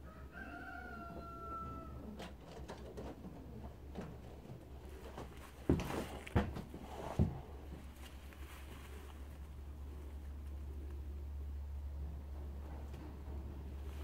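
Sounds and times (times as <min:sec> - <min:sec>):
faint rustles and clicks: 0:02.1 - 0:14.0.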